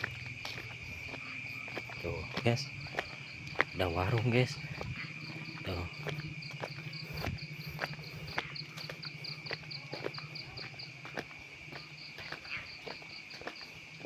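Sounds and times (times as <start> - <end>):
crickets trilling: 0.0 - 14.0
fast pulsing insect chirp: 0.0 - 14.0
footsteps on path: 0.0 - 14.0.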